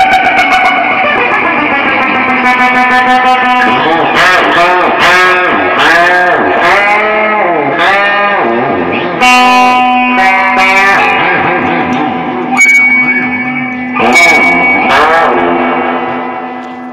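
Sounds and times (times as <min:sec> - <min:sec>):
electric guitar with effects: 0:00.0 - 0:16.9.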